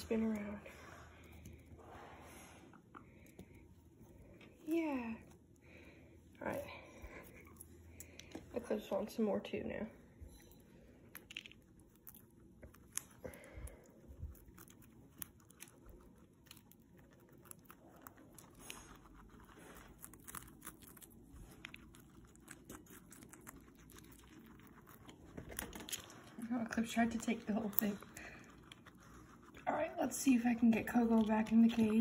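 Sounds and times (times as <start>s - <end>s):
guinea pigs crunching broccoli: 0.0s - 32.0s.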